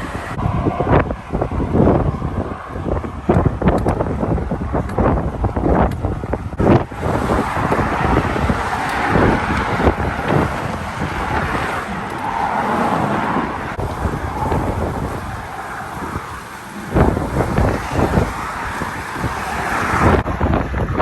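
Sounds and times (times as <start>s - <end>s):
road traffic rushing by: 0.0s - 20.9s
wind buffeting microphone: 0.0s - 21.0s.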